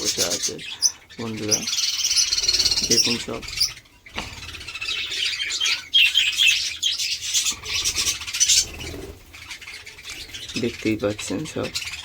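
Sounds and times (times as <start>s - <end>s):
budgerigars chattering and chirping: 0.0s - 12.0s.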